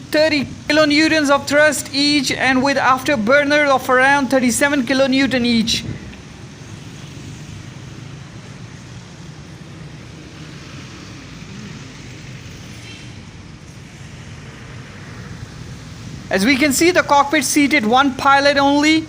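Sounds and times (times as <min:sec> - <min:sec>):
even hiss: 0:00.3 - 0:17.6.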